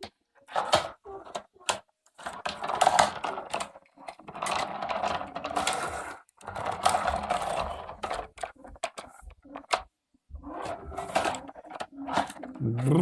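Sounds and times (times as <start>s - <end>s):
plastic parts rattling and ratcheting: 0.0s - 13.0s.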